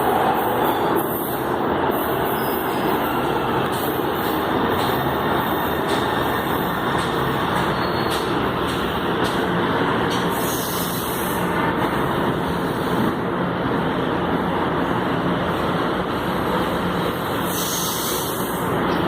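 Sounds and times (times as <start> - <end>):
train rumble and hiss: 0.0 - 19.0.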